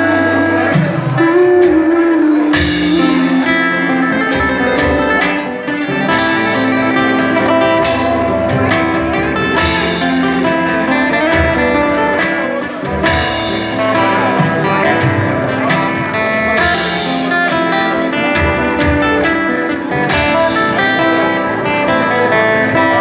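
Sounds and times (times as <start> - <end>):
acoustic guitars strummed: 0.0 - 23.0
drum kit beat: 0.0 - 23.0.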